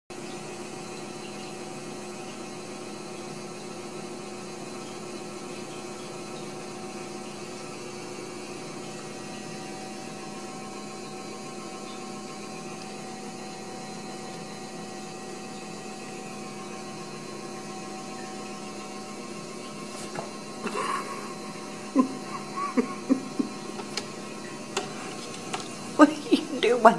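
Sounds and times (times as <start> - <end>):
electrical hum: 0.2 - 26.9.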